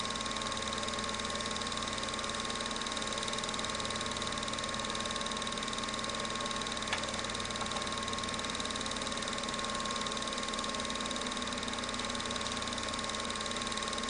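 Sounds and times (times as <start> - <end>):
film projector whirring: 0.0 - 14.0.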